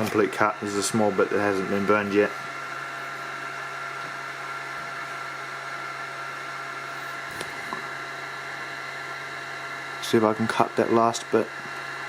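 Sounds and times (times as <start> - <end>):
cooling fan whirring with whine: 0.0 - 12.0.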